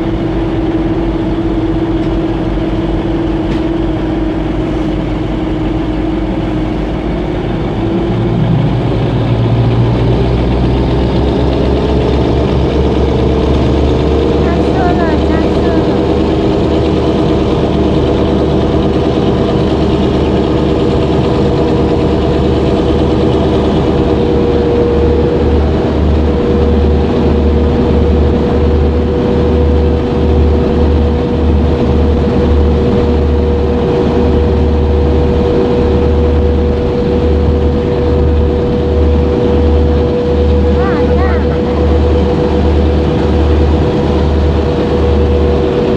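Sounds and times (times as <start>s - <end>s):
boat engine running: 0.0s - 45.9s.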